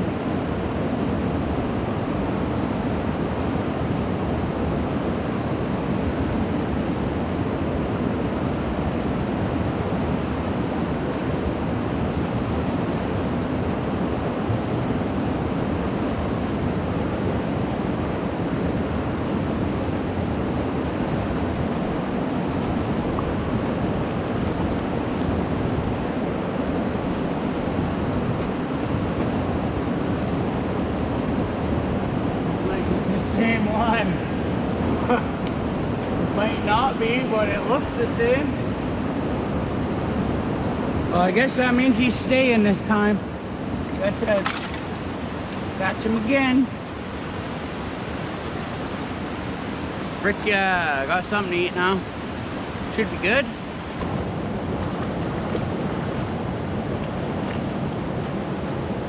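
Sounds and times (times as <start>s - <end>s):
rush of moving water: 0.0s - 59.0s.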